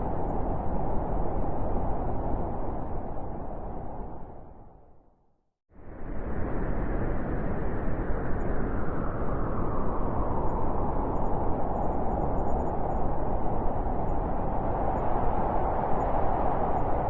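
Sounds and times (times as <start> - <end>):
howling blizzard wind: 0.0 - 5.0, 5.8 - 17.0.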